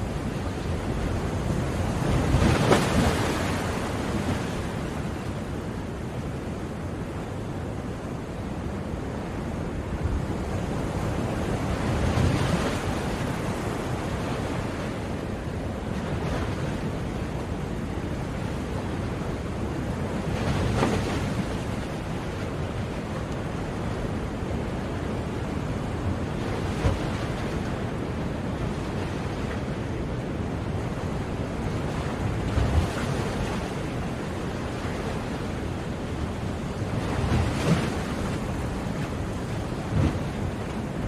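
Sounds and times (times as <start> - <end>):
sea waves breaking on shore: 0.0 - 41.0.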